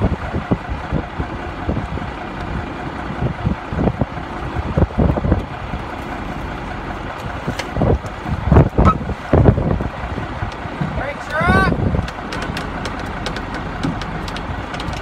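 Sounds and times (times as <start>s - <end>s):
truck engine idling: 0.0s - 15.0s
wind buffeting microphone: 0.0s - 15.0s.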